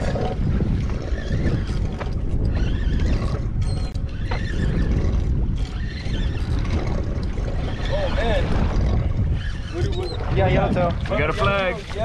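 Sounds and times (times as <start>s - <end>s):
wind and sea rumble: 0.0s - 12.0s.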